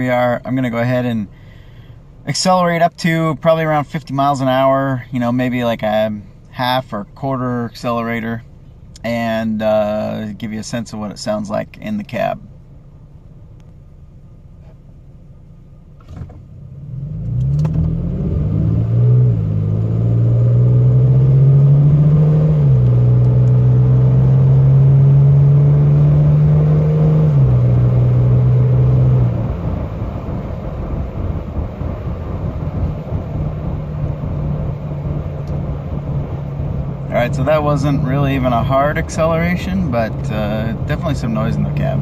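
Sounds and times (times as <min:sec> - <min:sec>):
truck exhaust drone accelerating: 0:00.0 - 0:42.0.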